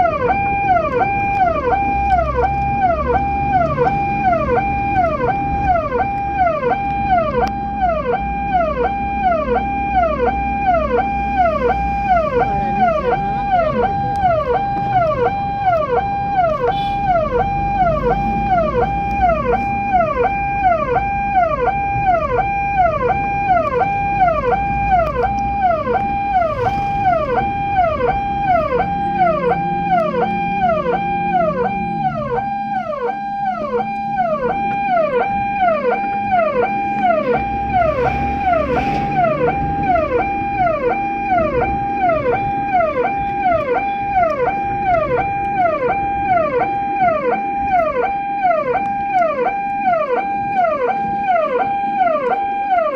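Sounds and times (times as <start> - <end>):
ambulance siren: 0.0 - 52.9.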